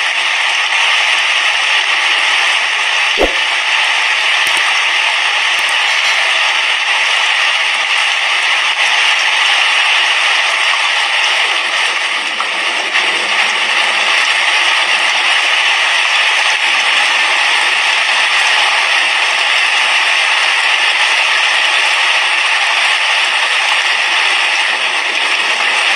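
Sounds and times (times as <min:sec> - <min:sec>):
heavy rain on a roof: 0:00.0 - 0:03.1, 0:03.8 - 0:25.9.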